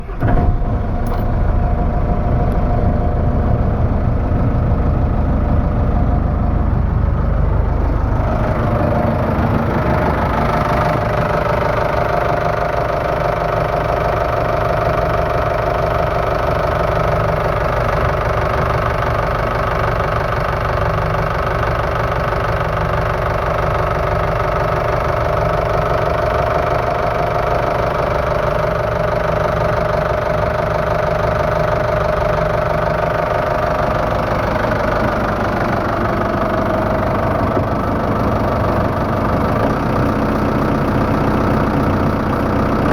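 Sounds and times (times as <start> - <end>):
boat engine idling: 0.0 - 42.9.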